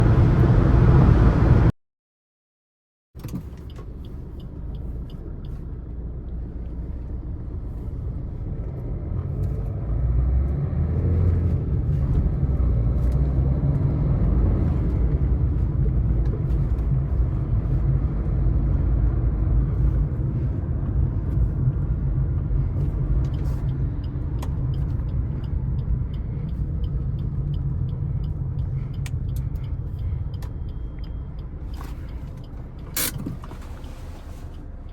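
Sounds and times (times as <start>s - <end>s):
car engine and road noise: 0.0s - 1.8s, 3.2s - 34.9s.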